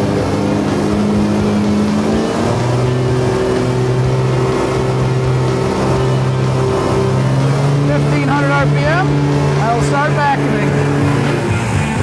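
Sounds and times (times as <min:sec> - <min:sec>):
truck engine and vacuum blowers: 0:00.0 - 0:12.0.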